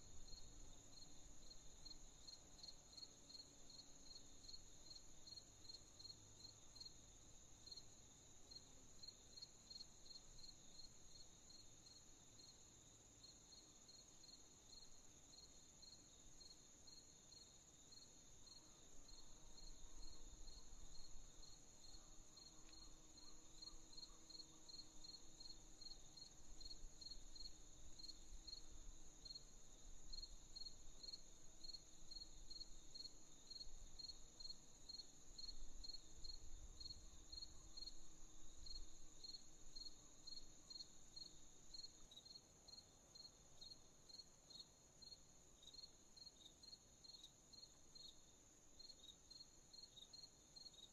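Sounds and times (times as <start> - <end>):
insect chirps: 0.0 - 50.9.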